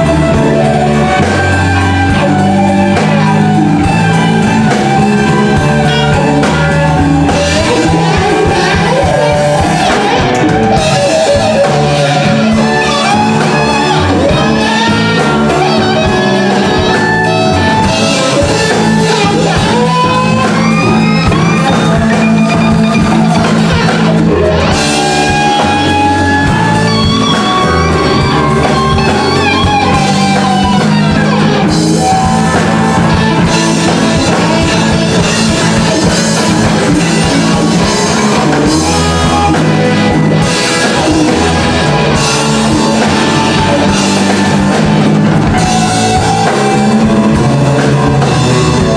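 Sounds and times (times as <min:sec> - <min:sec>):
drum kit: 0:00.0 - 0:48.9
electric bass line: 0:00.0 - 0:48.9
electric guitar lead: 0:00.0 - 0:48.9.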